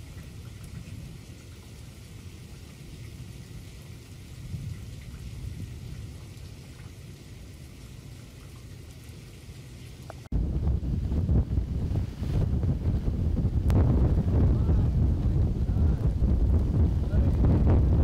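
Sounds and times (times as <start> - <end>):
thunder rumble: 0.0 - 8.2, 10.3 - 18.0
steady rain: 0.0 - 18.0.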